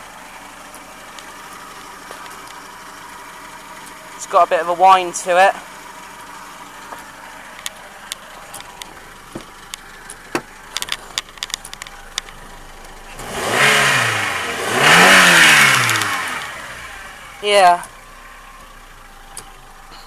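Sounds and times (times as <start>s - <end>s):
car engine idling with ticks: 0.0s - 20.0s
car engine revving: 0.0s - 20.0s.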